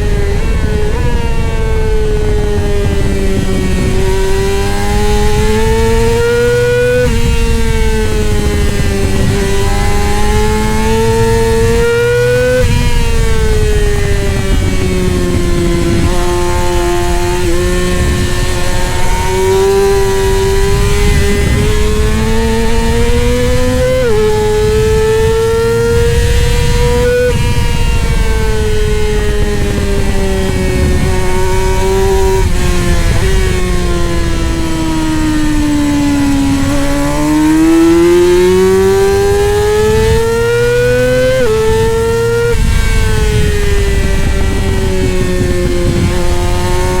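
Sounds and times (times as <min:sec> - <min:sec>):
superbike engine at high revs: 0:00.0 - 0:47.0.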